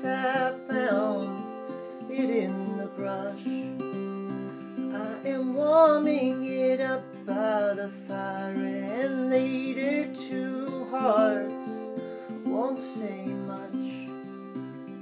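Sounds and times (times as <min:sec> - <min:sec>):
acoustic guitar fingerpicked: 0:00.0 - 0:15.0.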